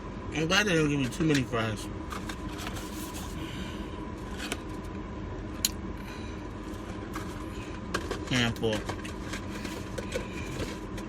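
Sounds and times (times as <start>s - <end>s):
car air conditioning hum: 0.0s - 11.0s.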